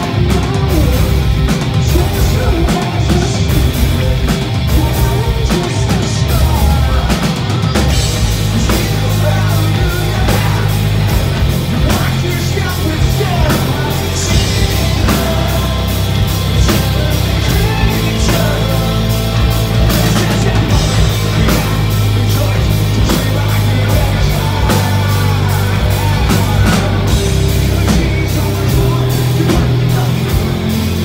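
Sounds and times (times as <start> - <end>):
bass guitar: 0.0 - 31.0
distorted electric guitar: 0.0 - 31.0
drums: 0.0 - 31.0.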